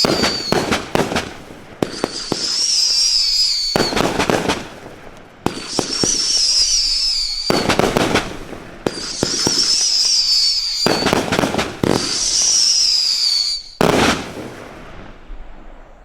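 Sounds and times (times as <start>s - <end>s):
firework whistles: 0.0s - 4.7s, 5.4s - 14.3s
firework crackling bursts: 0.0s - 16.0s.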